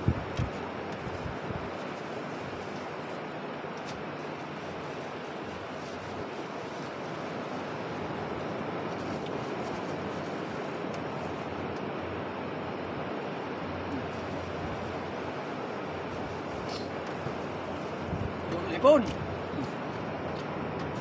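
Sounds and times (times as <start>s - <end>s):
sea waves rushing: 0.0s - 21.0s
wind: 0.0s - 21.0s.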